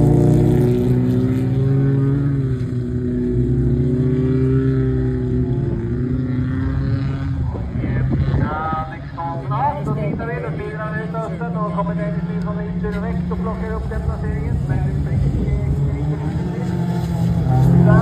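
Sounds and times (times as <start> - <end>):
racing car engines droning: 0.0 - 18.0.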